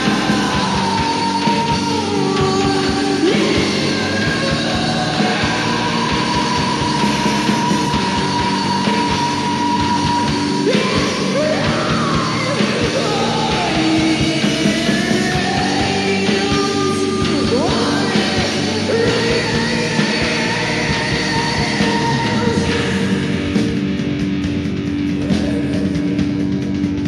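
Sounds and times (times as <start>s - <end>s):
noise rock band playing: 0.0s - 27.0s.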